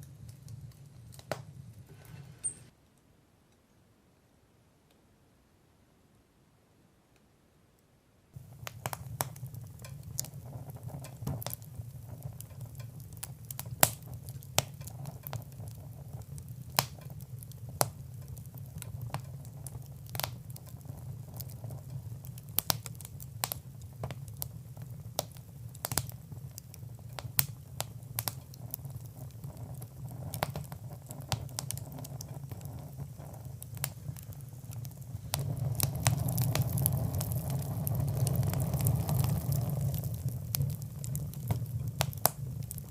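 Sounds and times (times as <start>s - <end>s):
fire crackling and popping: 0.0s - 2.7s, 8.4s - 42.9s.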